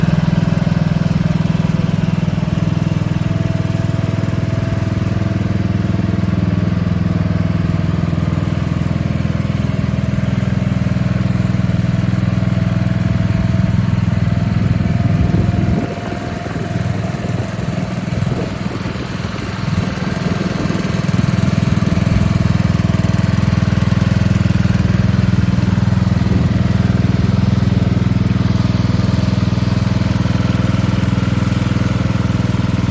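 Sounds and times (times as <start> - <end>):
riding lawn mower engine running: 0.0 - 32.9.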